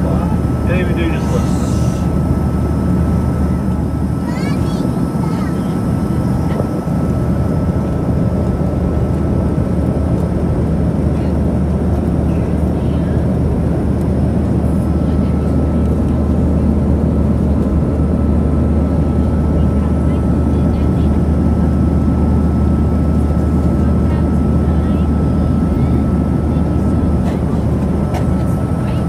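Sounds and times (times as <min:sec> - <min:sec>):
low drone of jet engines: 0:00.0 - 0:29.0.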